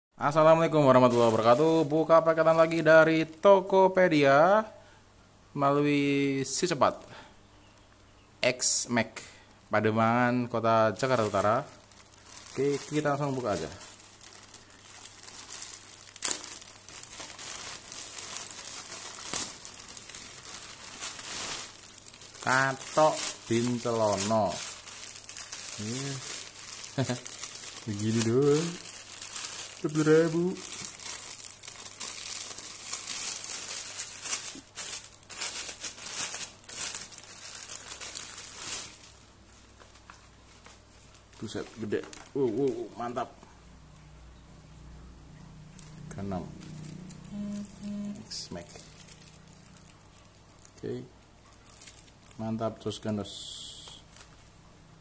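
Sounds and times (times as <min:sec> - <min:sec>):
plastic bag crinkling and tearing: 0:00.4 - 0:03.6, 0:10.5 - 0:43.2, 0:45.7 - 0:54.6.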